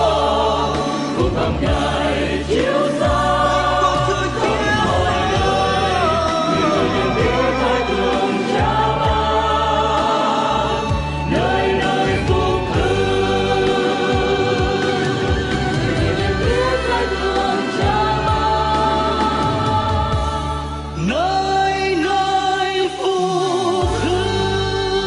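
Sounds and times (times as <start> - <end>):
instrumental backing with bass: 0.0 - 23.0, 23.8 - 25.0
gospel choir singing: 0.0 - 25.0.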